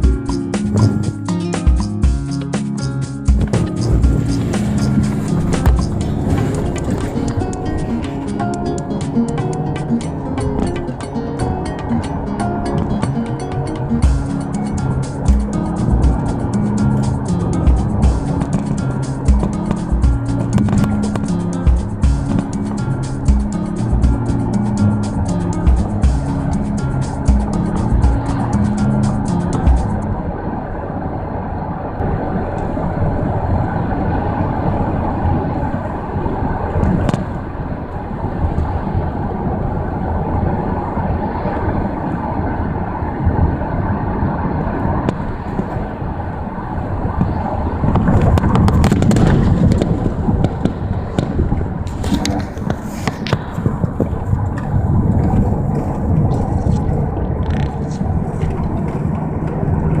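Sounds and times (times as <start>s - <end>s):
car road and engine noise: 0.0s - 60.0s.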